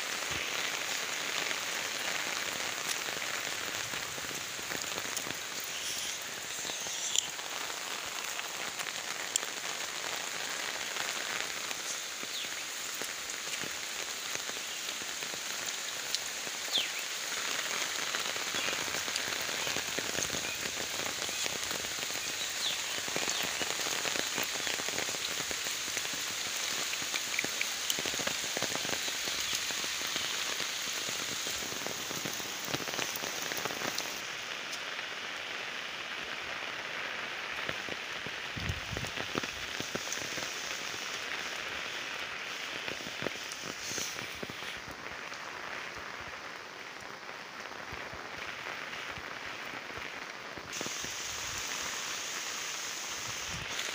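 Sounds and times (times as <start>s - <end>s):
heavy rain on foliage: 0.0s - 53.9s
raindrops tapping close by: 0.0s - 53.9s.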